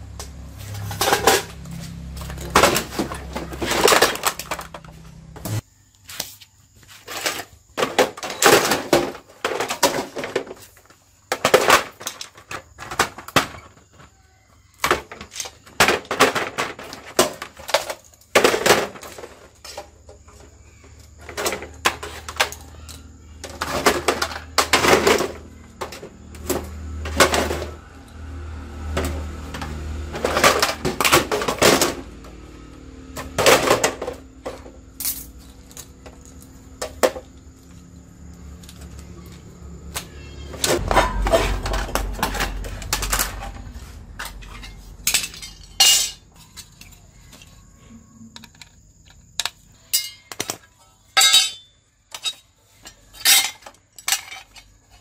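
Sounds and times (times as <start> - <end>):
metal cases clattering on concrete: 0.7 - 5.6, 7.1 - 27.8, 29.0 - 32.4, 33.2 - 37.5, 40.2 - 47.6, 48.4 - 55.0.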